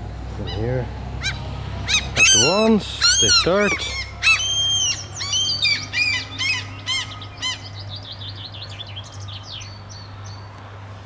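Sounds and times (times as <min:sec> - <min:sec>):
seagulls crying: 0:00.0 - 0:10.3.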